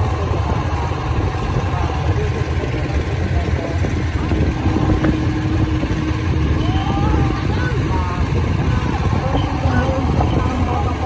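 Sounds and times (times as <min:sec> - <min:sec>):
motorboat engine rumbling: 0:00.0 - 0:11.0.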